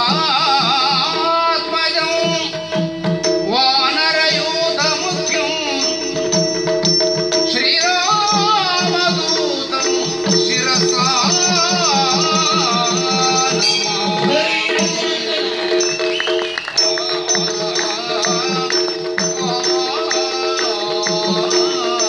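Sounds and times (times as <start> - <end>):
man singing: 0.0 - 6.5, 7.3 - 16.0, 16.8 - 22.0
drum beating fast rhythm: 0.0 - 22.0.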